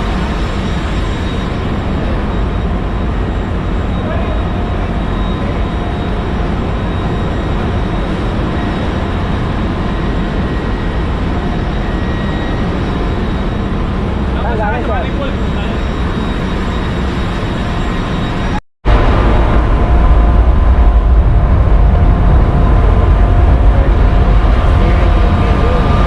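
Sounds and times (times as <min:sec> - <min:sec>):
engine room machinery drone: 0:00.0 - 0:26.0.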